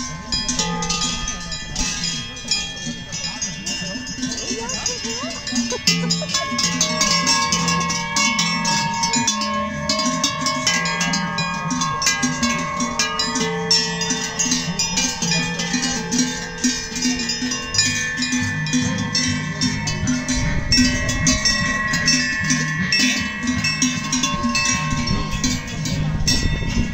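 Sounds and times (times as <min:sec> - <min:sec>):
cowbells clanking: 0:00.0 - 0:26.9.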